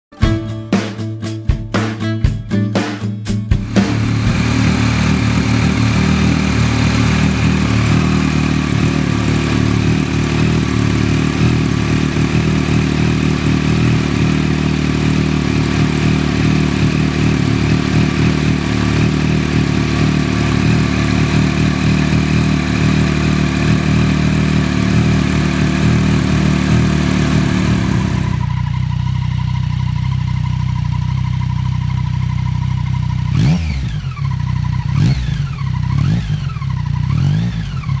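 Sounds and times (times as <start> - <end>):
motorcycle engine idling: 3.6 - 38.0.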